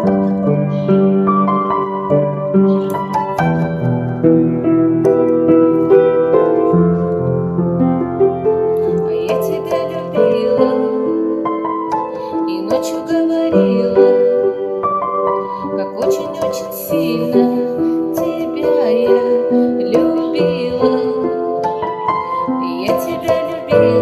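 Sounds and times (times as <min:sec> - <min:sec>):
slow keyboard piano piece: 0:00.0 - 0:24.0.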